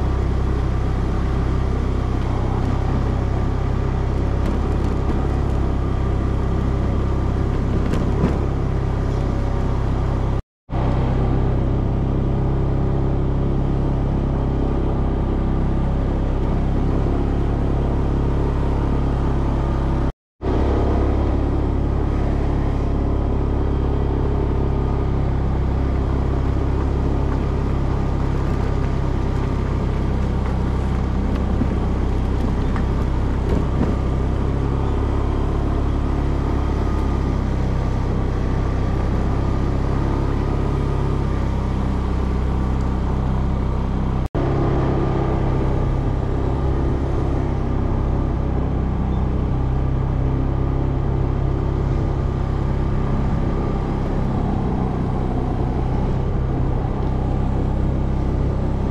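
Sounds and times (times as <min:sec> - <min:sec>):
road noise: 0:00.0 - 0:58.9
vehicle engine running: 0:00.0 - 0:58.9.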